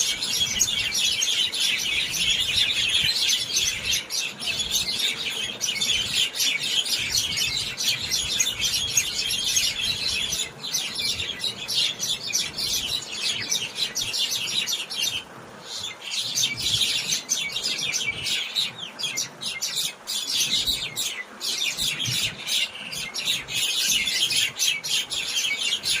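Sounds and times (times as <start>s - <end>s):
flock of small birds chirping: 0.0s - 26.0s.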